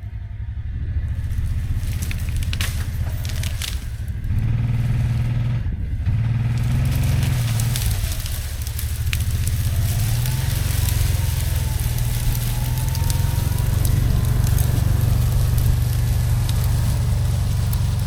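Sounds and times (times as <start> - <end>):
utility vehicle engine running: 0.0 - 18.0
crackles and snaps: 1.0 - 18.0.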